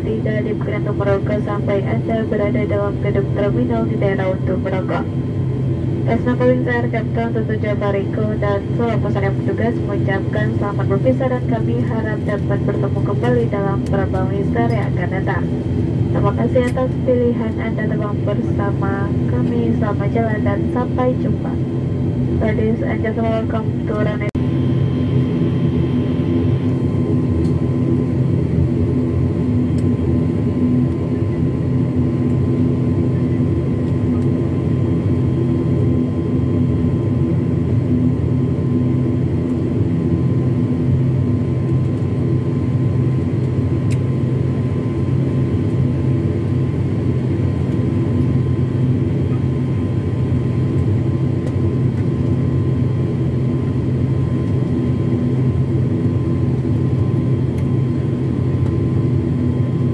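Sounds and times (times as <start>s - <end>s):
turboprop engines droning in cabin: 0.0s - 59.9s.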